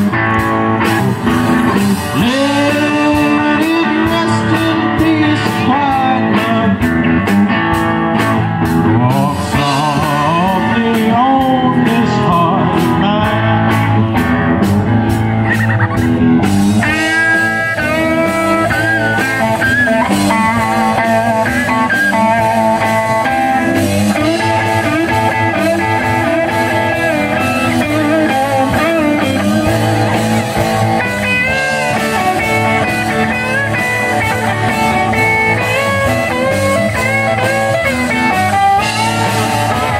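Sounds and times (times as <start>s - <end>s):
lead guitar bending notes: 0.0s - 39.9s
live rock band playing: 0.0s - 39.9s.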